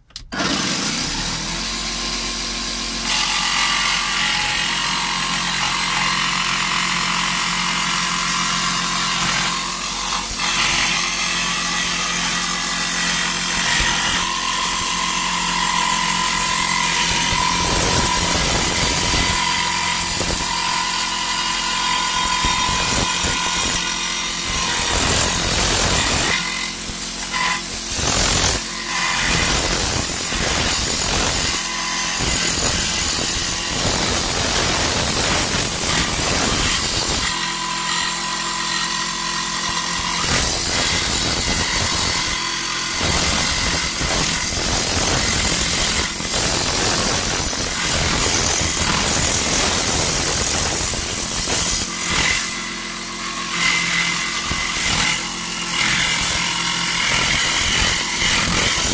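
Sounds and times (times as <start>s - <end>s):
saw motor buzzing: 0.0s - 58.9s.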